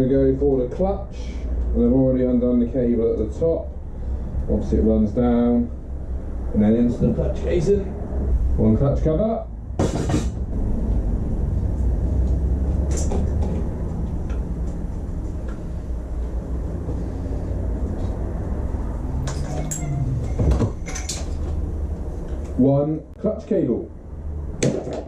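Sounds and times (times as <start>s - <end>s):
low rumble: 2.5s - 23.2s.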